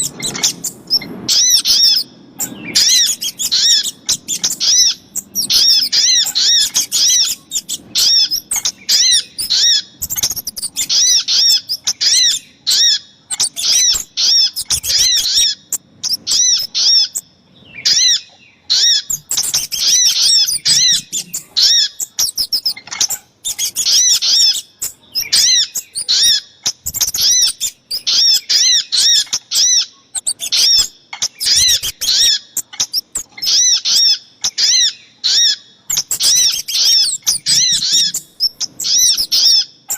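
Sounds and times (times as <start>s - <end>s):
high-pitched bird calls: 0.0s - 39.9s.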